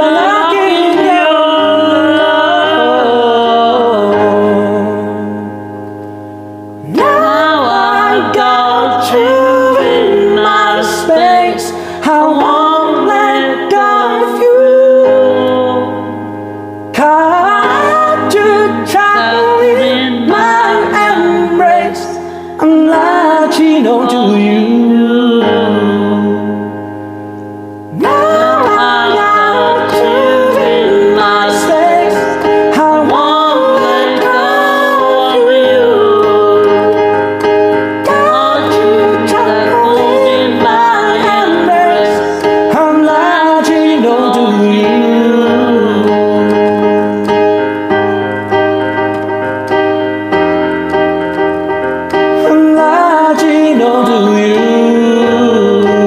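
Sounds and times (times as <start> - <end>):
person singing: 0.0 - 6.0, 6.8 - 27.0, 27.8 - 56.0
slow piano chords: 0.0 - 56.0.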